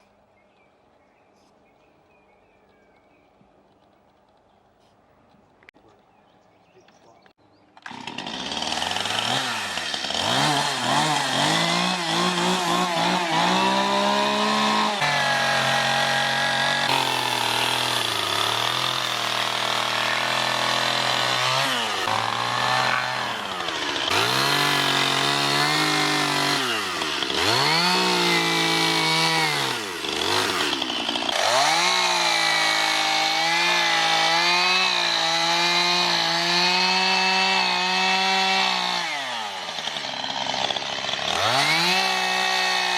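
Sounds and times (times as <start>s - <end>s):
chainsaw revving: 7.8s - 42.9s.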